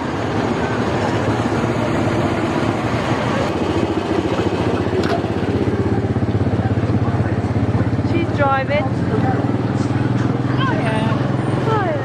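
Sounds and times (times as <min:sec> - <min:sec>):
small petrol engine drone: 0:00.0 - 0:12.0.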